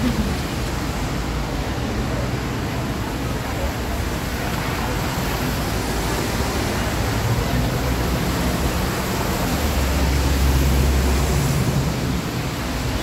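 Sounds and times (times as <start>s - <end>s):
loud rushing noise with rumble: 0.0s - 13.0s.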